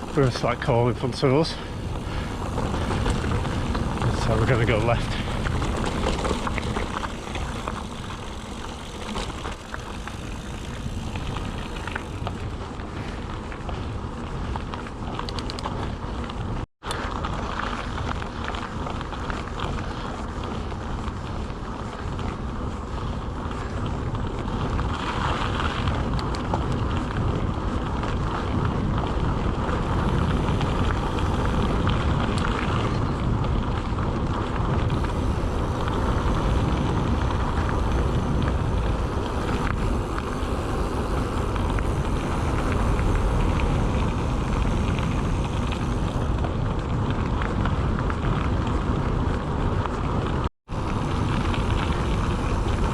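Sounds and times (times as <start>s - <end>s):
bike rattling: 0.0s - 52.9s
bike tyres rumbling: 0.0s - 52.9s
wind buffeting microphone: 0.0s - 52.9s.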